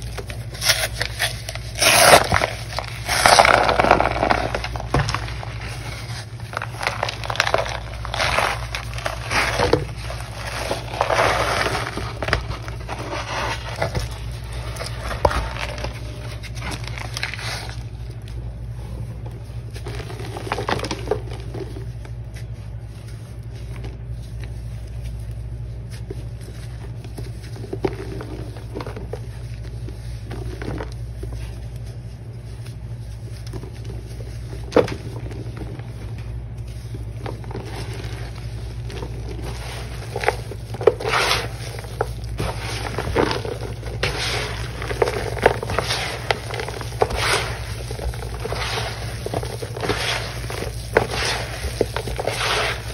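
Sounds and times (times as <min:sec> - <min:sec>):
hands crushing damp powder: 0:00.0 - 0:52.9
low hum: 0:00.0 - 0:52.9.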